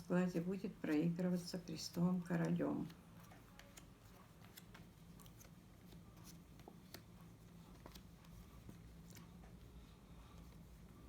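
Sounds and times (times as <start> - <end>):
low steady hum: 0.0 - 11.0
playing cards clicking and rustling: 1.8 - 10.9.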